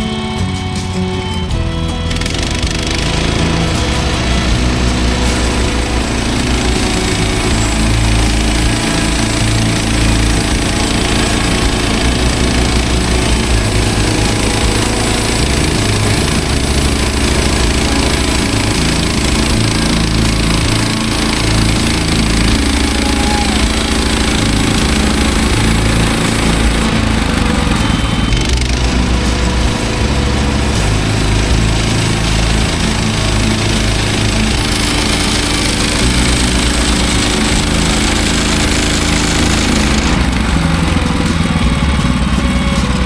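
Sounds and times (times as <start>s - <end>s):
gasoline engine running: 0.0s - 43.0s.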